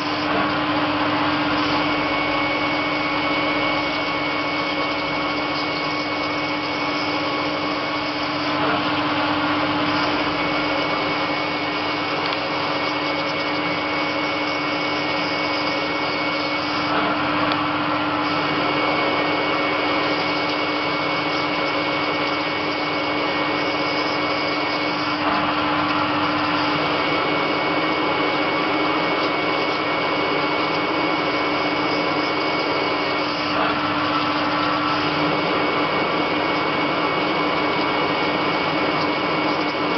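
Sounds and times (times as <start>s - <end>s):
lathe whirring with high whine: 0.0s - 39.9s.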